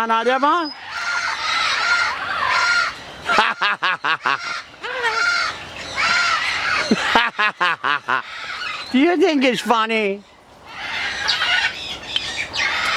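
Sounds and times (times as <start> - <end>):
cockatoo harsh squawks: 0.3 - 9.0, 10.6 - 12.9.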